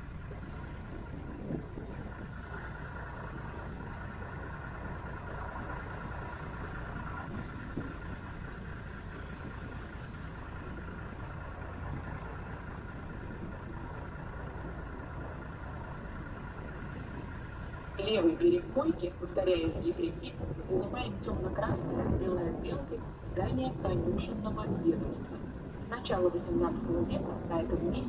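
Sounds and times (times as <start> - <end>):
boat engine drone: 0.0 - 28.0.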